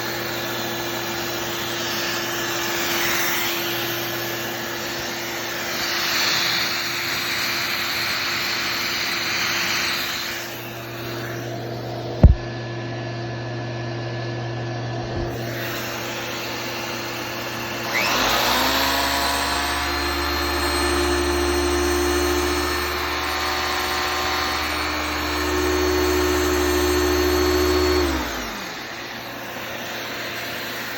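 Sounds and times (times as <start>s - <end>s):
vacuum cleaner motor whine: 0.0s - 30.9s.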